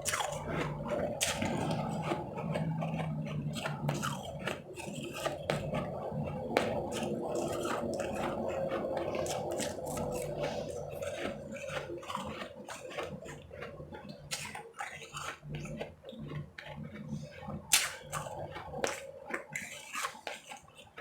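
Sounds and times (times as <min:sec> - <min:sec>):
ice chips being chewed: 0:00.0 - 0:21.0.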